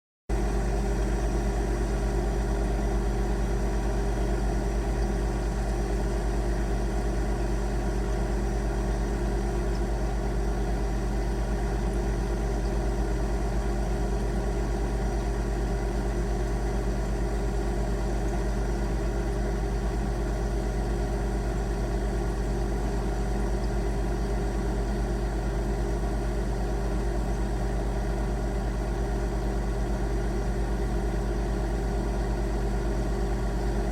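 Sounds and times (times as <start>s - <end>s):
refrigerator compressor humming: 0.3s - 33.9s.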